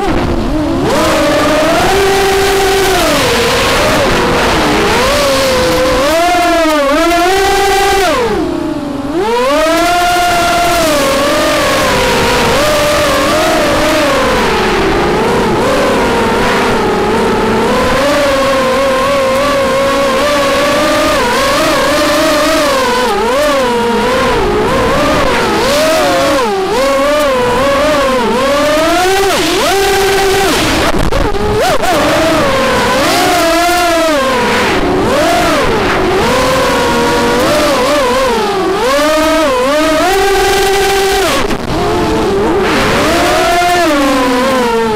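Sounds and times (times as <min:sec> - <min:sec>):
drone motors whining: 0:00.0 - 0:44.9
wind rumbling on microphone: 0:00.0 - 0:44.9.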